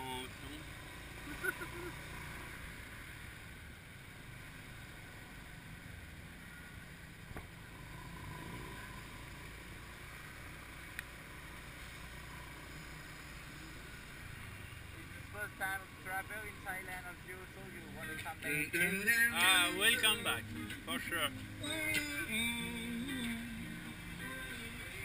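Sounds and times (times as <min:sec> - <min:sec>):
motorcycle engine rumble: 0:00.0 - 0:25.0
road and wind noise: 0:00.0 - 0:25.0.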